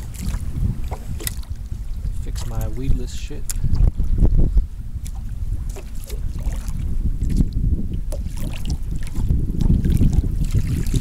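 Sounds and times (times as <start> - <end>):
water lapping at boat hull: 0.0 - 11.0
wind buffeting microphone: 0.0 - 11.0.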